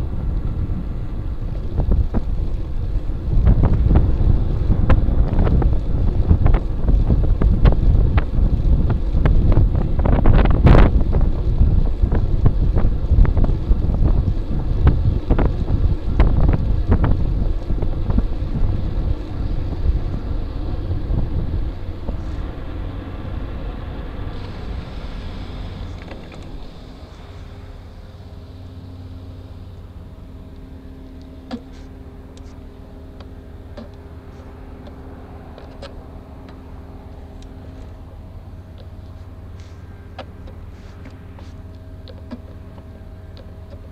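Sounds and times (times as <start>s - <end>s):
road rumble: 0.0s - 43.9s
wind buffeting microphone: 0.0s - 43.9s.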